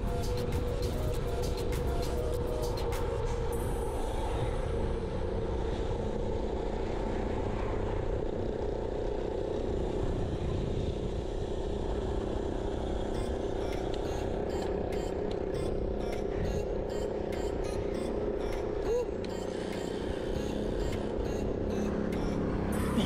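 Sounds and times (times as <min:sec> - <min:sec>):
low hum: 0:00.0 - 0:23.0
wind and road rumble: 0:00.0 - 0:23.0.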